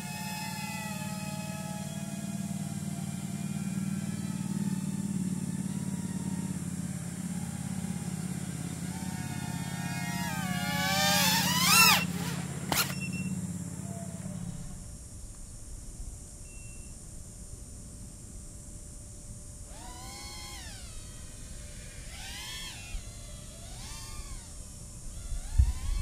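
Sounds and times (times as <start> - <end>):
quadcopter motors whining: 0.0 - 15.5, 19.6 - 26.0.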